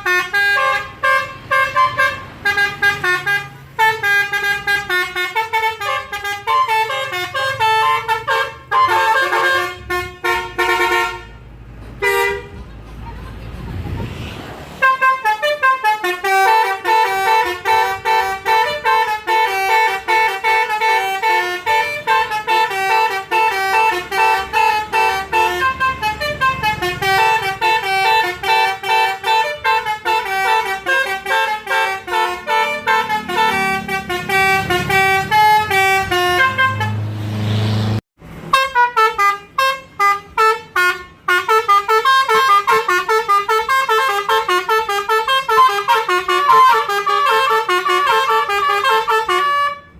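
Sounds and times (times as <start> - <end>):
musical air horns playing tunes: 0.0 - 12.6, 14.8 - 37.5, 38.4 - 49.9.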